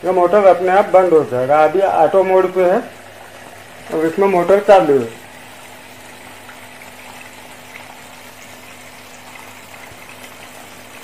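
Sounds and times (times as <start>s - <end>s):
water pouring into plastic tank: 0.0s - 11.0s
water pump humming: 0.0s - 11.0s.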